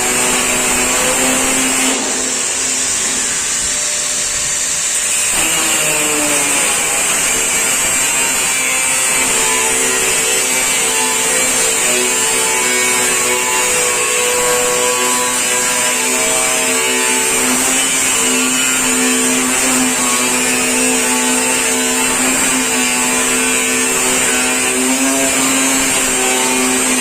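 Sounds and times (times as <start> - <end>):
angle grinder cutting steel: 0.0 - 27.0.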